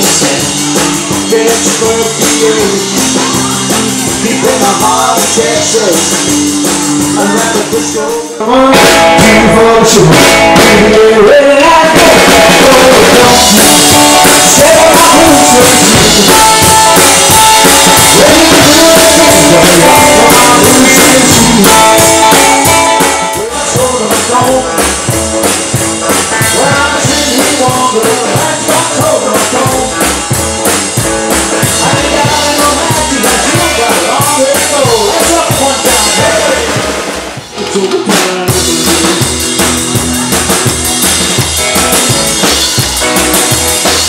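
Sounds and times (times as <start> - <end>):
live band playing: 0.0 - 44.0
steady drum beat: 0.0 - 44.0.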